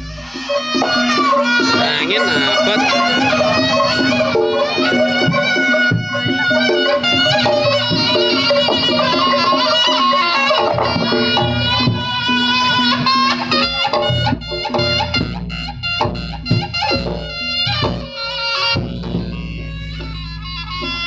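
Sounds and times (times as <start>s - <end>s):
drums: 0.0s - 21.0s
shawm melody: 0.0s - 21.0s.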